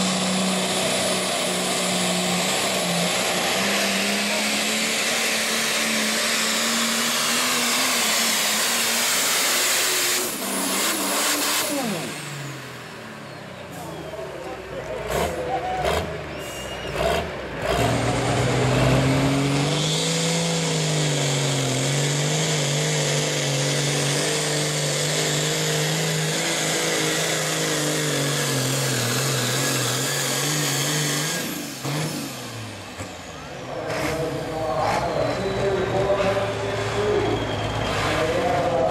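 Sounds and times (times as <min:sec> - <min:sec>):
high turbo whine: 0:00.0 - 0:16.2, 0:17.6 - 0:38.9
diesel engine running hard: 0:00.0 - 0:38.9.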